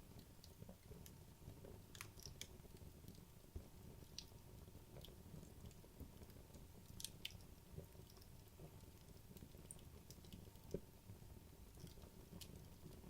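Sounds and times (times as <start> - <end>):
logs crackling in a fireplace: 0.0 - 13.0.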